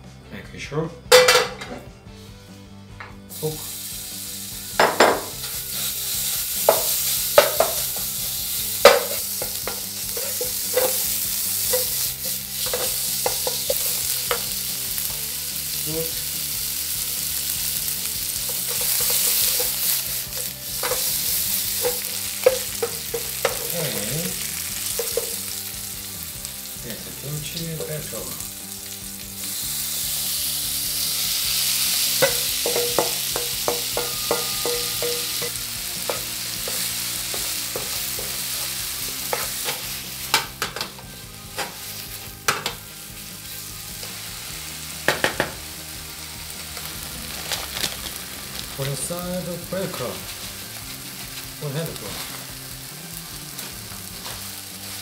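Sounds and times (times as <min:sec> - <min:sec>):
meat sizzling in a frying pan: 0:03.3 - 0:55.0.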